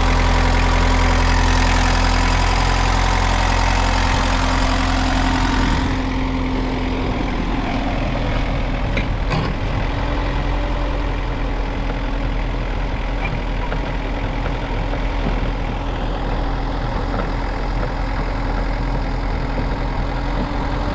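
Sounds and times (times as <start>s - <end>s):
paver engine idling: 0.0s - 20.9s.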